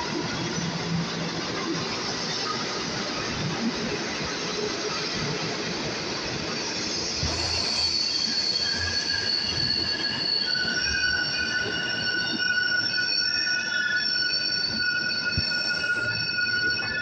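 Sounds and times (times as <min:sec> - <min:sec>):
rumble of subway cars: 0:00.0 - 0:17.0
train wheels squealing: 0:00.0 - 0:17.0.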